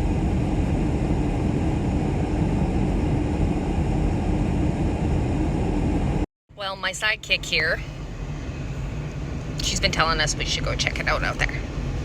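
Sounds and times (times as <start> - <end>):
wind against vehicle: 0.0 - 6.3, 7.2 - 12.0
engine running: 0.0 - 12.0.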